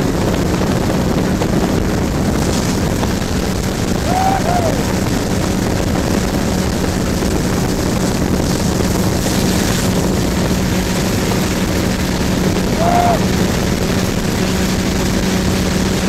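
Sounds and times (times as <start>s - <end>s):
motorboat engine hum: 0.0s - 16.0s
water rushing and spray: 0.0s - 16.0s.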